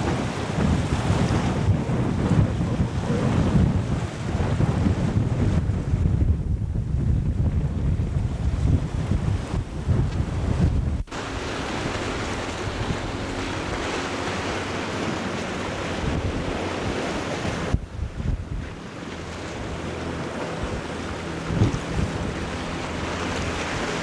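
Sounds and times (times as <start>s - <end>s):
water and waves rushing: 0.0s - 24.0s
wind buffeting microphone: 0.0s - 24.0s.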